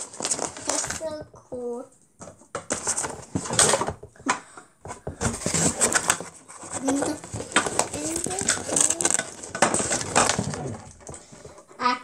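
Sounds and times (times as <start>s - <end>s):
plastic parts clicking and rustling: 0.0s - 1.2s, 2.2s - 11.7s.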